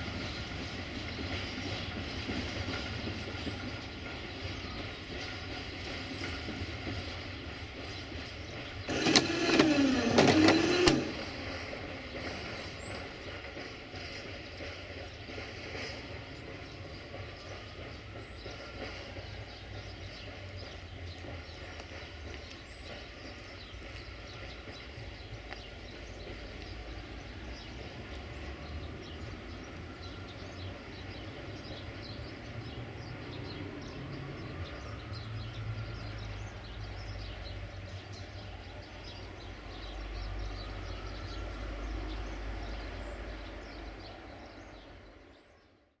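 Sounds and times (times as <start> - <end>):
small birds chirping: 0.2 - 45.8.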